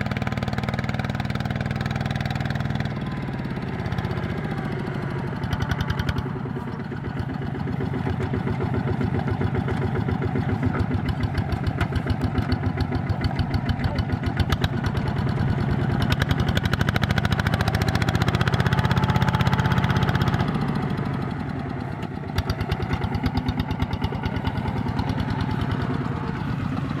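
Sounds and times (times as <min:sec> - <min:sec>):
diesel engine chugging: 0:00.0 - 0:27.0.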